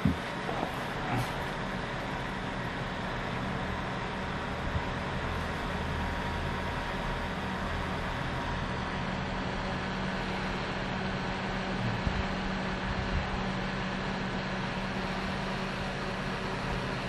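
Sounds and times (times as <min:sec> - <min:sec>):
mechanical hum with hiss: 0:00.0 - 0:17.0.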